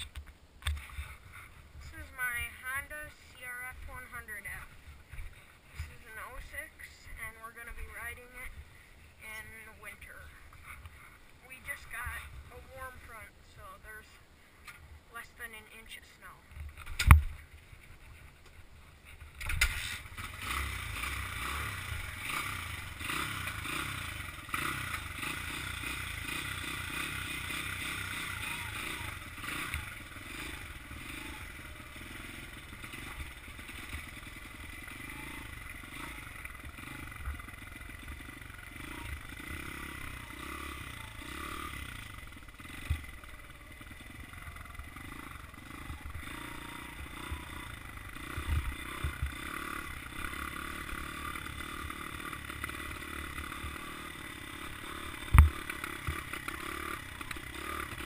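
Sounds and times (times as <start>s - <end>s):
dirt bike engine running: 0.0s - 14.0s, 16.5s - 58.0s.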